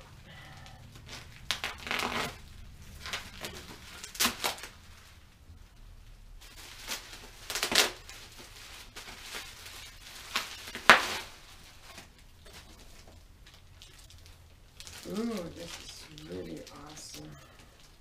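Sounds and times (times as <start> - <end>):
bubble wrap crinkling: 0.0 - 18.0.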